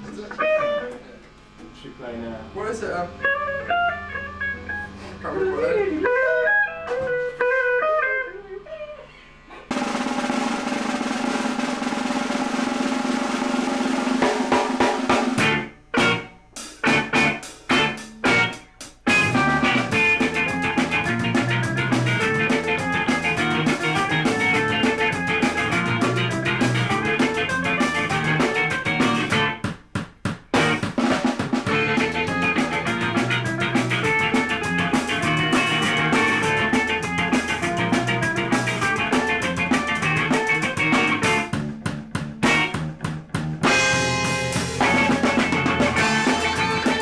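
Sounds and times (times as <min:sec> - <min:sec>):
ska punk band playing: 0:00.0 - 0:01.0, 0:02.7 - 0:08.2, 0:09.6 - 0:47.0
drums: 0:00.0 - 0:08.4, 0:09.1 - 0:47.0
electric guitar: 0:00.0 - 0:09.8, 0:13.8 - 0:29.7, 0:30.5 - 0:47.0.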